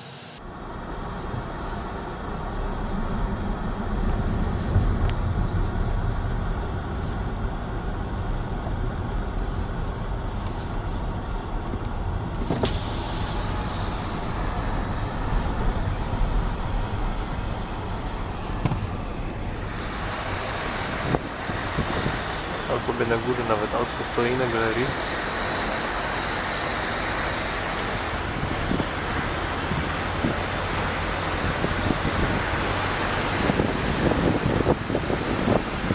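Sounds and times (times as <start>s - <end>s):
car engine and tyre noise: 0.0s - 35.9s.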